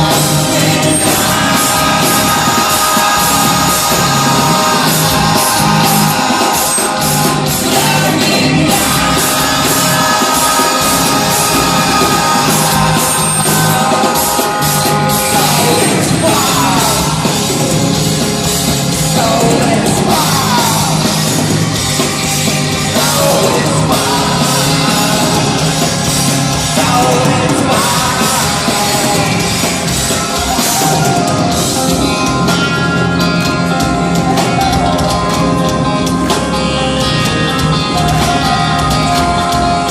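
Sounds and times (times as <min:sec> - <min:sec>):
person singing: 0:00.0 - 0:18.1, 0:19.0 - 0:21.6, 0:22.7 - 0:39.9
heavy rock band playing: 0:00.0 - 0:39.9.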